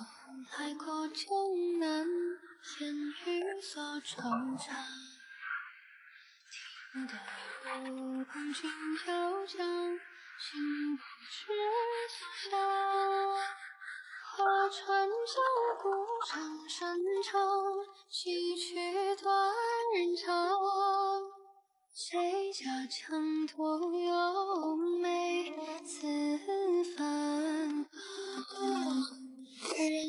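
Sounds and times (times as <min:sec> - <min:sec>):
woman singing: 0:00.0 - 0:05.2, 0:07.0 - 0:21.4, 0:22.0 - 0:30.0.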